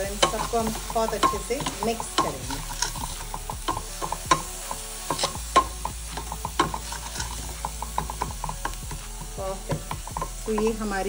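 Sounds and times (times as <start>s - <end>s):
wooden spatula scraping metal pan: 0.0s - 11.0s.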